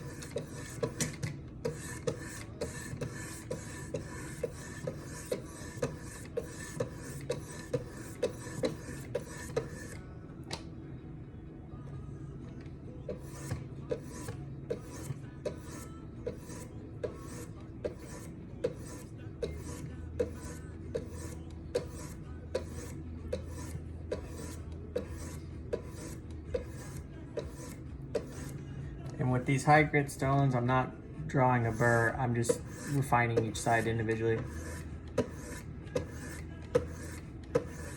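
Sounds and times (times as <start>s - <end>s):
sharpening stone scraping knife blade: 0.0s - 10.0s, 13.1s - 28.6s, 31.7s - 37.9s.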